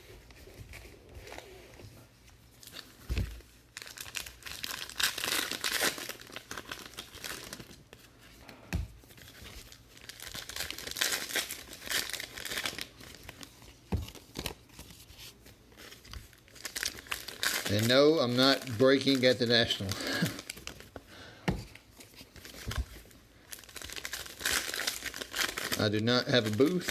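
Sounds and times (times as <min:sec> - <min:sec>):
wrappers tearing and crinkling: 0:02.6 - 0:08.1, 0:09.2 - 0:21.0, 0:21.8 - 0:26.9.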